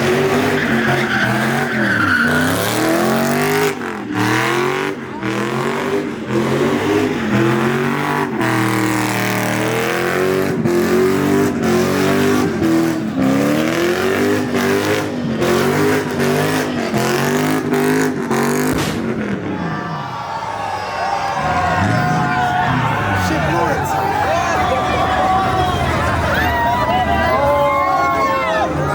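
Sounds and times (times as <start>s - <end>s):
car engine revving hard: 0.0s - 19.5s, 21.4s - 26.2s.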